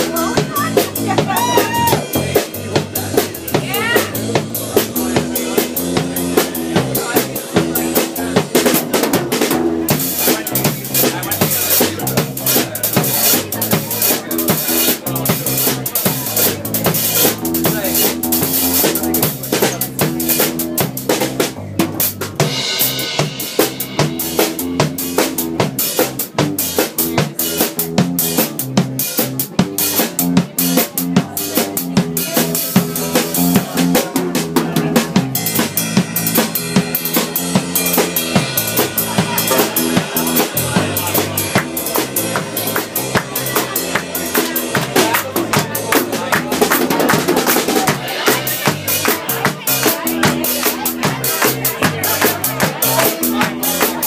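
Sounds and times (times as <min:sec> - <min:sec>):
drum kit beat: 0:00.0 - 0:54.0.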